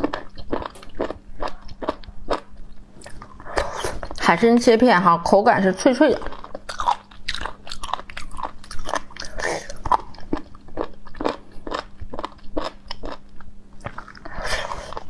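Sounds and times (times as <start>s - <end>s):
person chewing crisp crunches: 0.0s - 4.2s, 6.2s - 15.0s.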